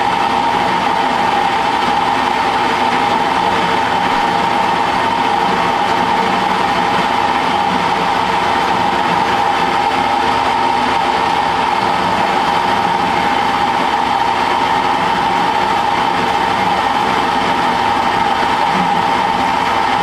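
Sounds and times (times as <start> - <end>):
metal lathe whining: 0.0 - 20.0.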